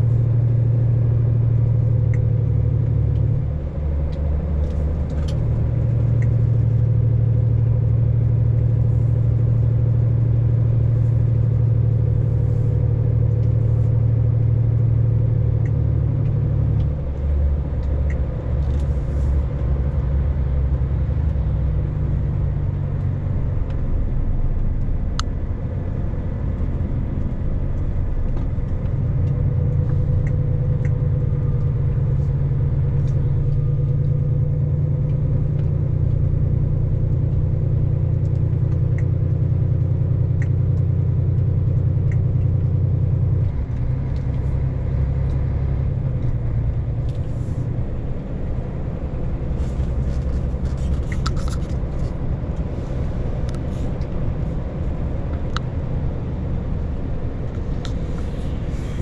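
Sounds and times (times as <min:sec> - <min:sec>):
road rumble: 0:00.0 - 0:59.0
vehicle engine droning: 0:00.0 - 0:59.0.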